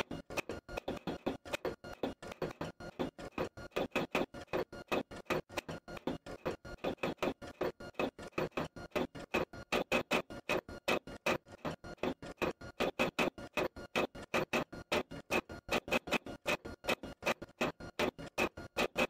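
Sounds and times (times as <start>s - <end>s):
faint steady tones: 0.0s - 19.0s.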